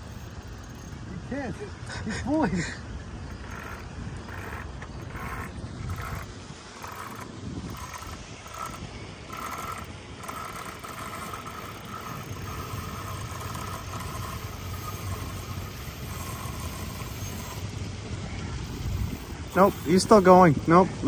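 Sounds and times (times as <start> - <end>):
fishing reel drag buzzing: 0.0 - 2.0, 2.6 - 17.9, 18.5 - 20.8.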